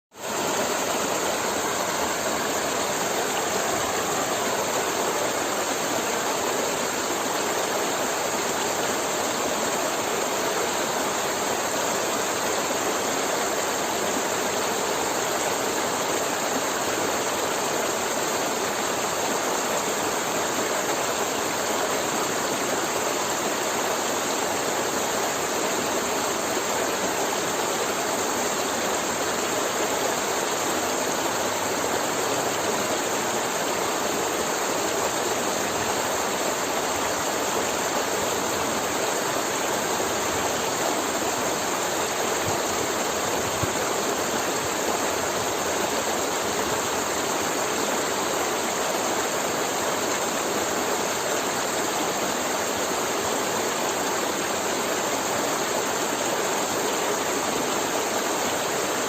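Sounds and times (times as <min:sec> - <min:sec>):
river flowing: 0:00.1 - 0:59.0.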